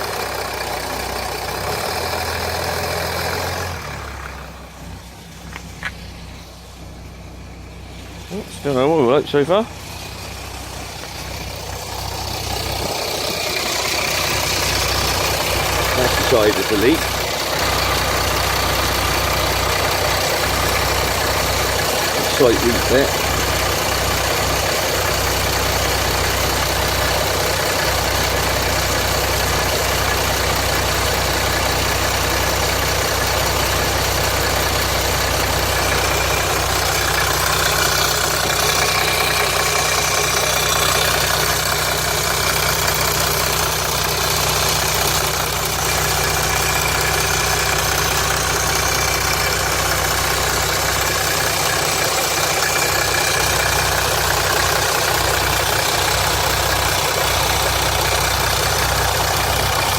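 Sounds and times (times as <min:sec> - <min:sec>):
diesel engine idling with rattle: 0:00.0 - 0:59.9.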